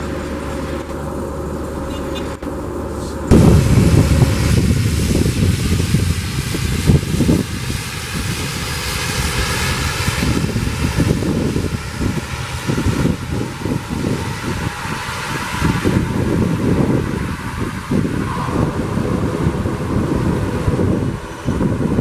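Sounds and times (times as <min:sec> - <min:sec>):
aircraft engine running: 0:00.0 - 0:22.0
wind buffeting microphone: 0:03.2 - 0:22.0.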